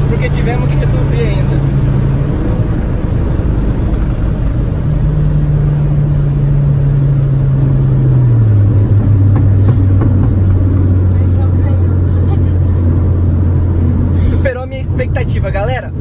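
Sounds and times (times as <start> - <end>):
car engine drone: 0.0 - 16.0
wind and road noise: 0.0 - 16.0.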